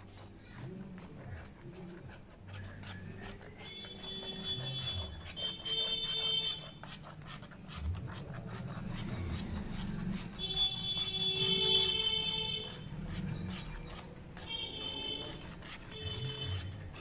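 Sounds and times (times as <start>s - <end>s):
metal spatula scraping a pan: 0.0s - 17.0s.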